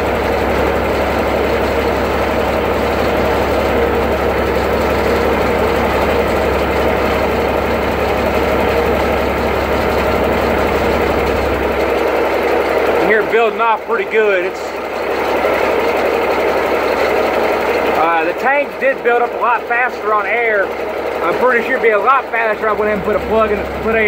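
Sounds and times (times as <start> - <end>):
air compressor running: 0.0 - 24.0
diesel truck engine running: 0.0 - 24.0.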